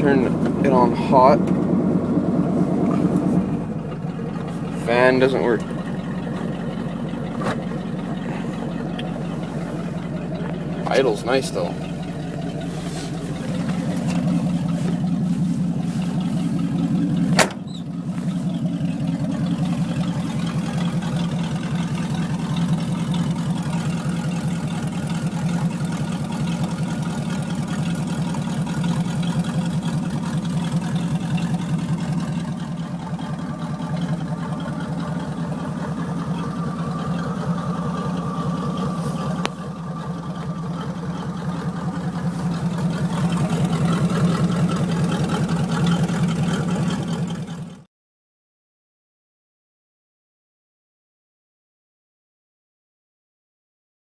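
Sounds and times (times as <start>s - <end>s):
vee-eight engine idling: 0.0s - 47.9s.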